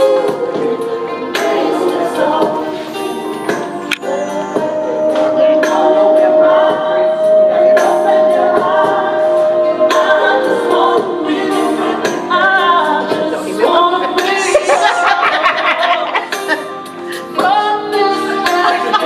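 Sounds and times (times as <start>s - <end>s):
song with singing: 0.0s - 19.0s.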